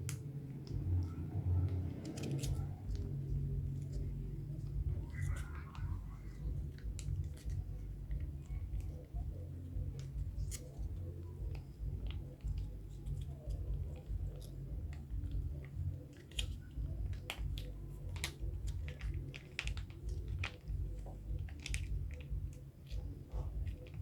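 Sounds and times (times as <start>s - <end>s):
cats crunching food: 0.0s - 24.0s
steady low rumble: 0.0s - 24.0s.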